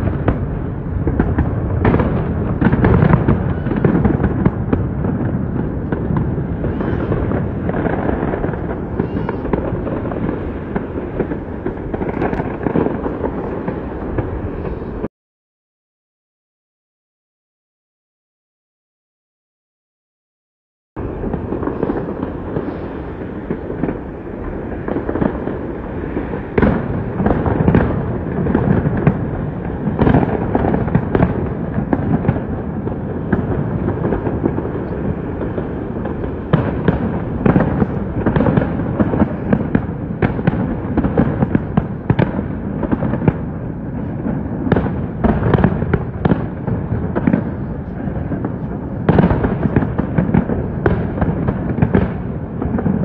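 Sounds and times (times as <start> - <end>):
distant fireworks bangs: 0.0 - 15.1, 21.0 - 53.0.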